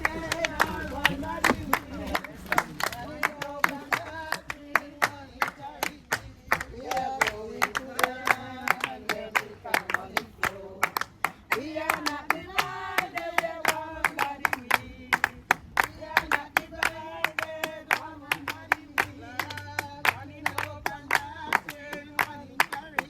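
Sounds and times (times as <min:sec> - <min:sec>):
people singing together: 0:00.0 - 0:23.0
rhythmic hand-clapping: 0:00.0 - 0:23.0.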